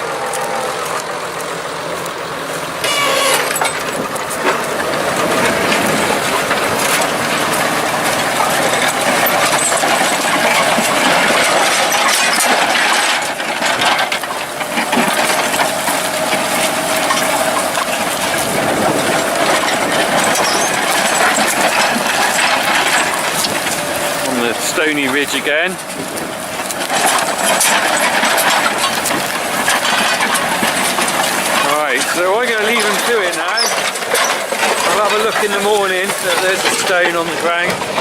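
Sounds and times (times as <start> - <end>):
plough clicks and clatter: 0.0 - 38.0
tractor engine under load: 0.0 - 38.0.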